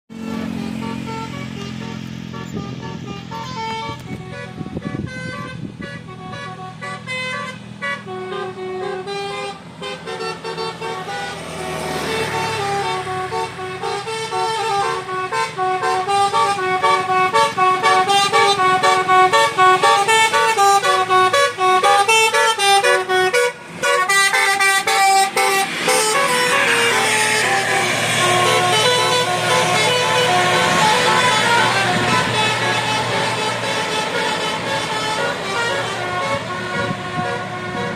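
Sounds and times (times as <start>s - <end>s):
musical horn playing a tune: 0.1s - 37.9s.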